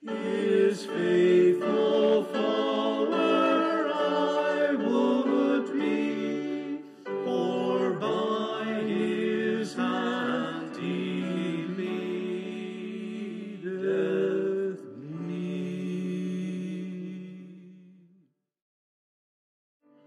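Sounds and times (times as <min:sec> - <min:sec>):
vocal ensemble singing in harmony: 0:00.0 - 0:18.0.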